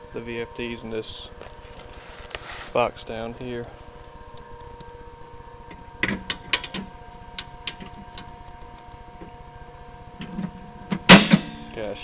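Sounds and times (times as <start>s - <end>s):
milling machine electric hum: 0.0s - 12.0s.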